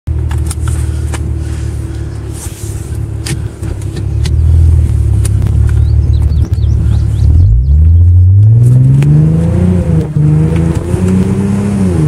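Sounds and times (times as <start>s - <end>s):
car engine rumble: 0.1s - 12.0s.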